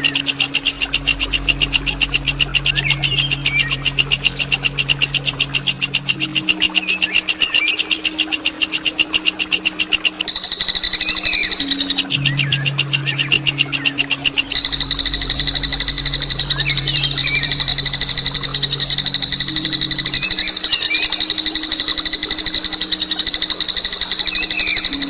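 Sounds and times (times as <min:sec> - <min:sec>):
songbird rattling song: 0:00.0 - 0:25.0.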